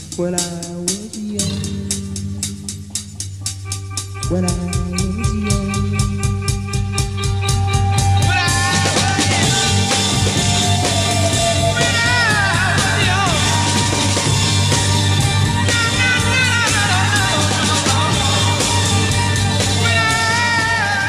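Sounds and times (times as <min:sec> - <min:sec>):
psychedelic rock music: 0:00.0 - 0:21.0
wailing lead guitar line: 0:03.7 - 0:21.0.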